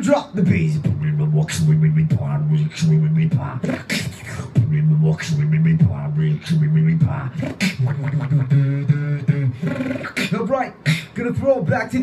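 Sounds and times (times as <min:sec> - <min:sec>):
person beatboxing: 0:00.0 - 0:12.0.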